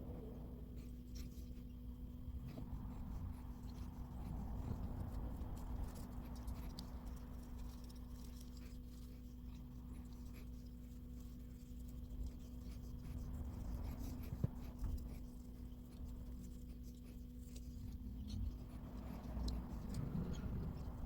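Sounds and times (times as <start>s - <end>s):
steady low hum: 0.0s - 21.0s
light scratching and clicks: 0.1s - 21.0s.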